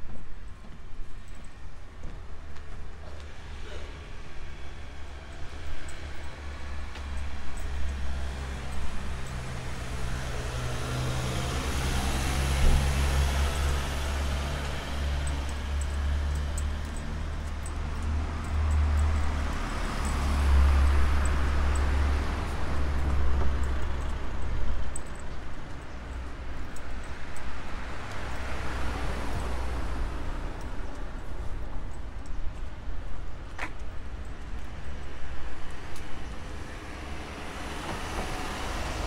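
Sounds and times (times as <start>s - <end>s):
vehicles passing on road: 0.0s - 39.0s.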